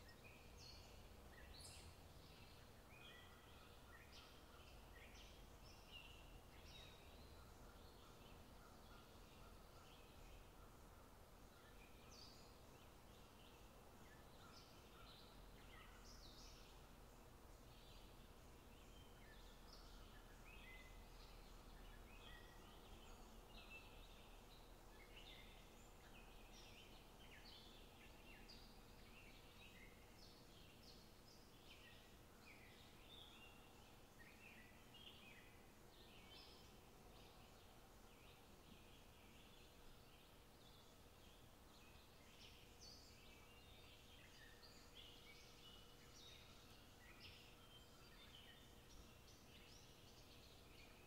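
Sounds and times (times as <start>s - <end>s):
faint bird chirping: 0.0s - 51.0s
faint low hum: 0.0s - 51.0s.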